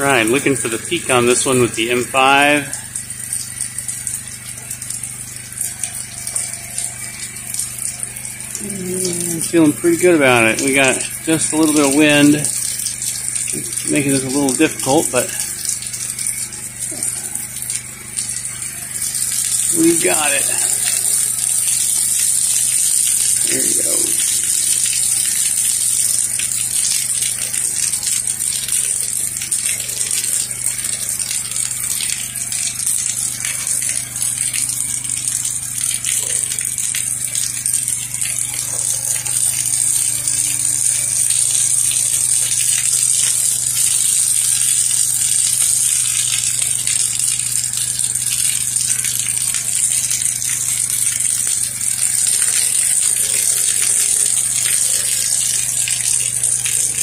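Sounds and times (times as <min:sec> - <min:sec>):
pressure washer engine hum: 0:00.0 - 0:57.0.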